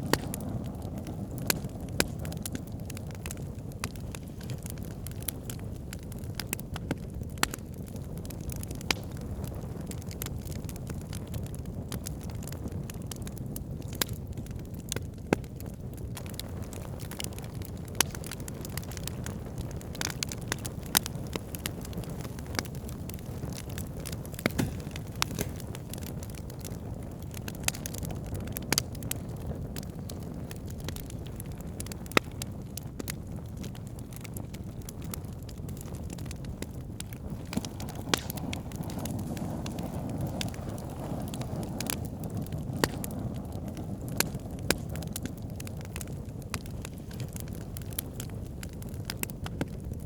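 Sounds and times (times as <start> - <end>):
fire pops and crackles: 0.0 - 50.0
low rumble of flames: 0.0 - 50.0.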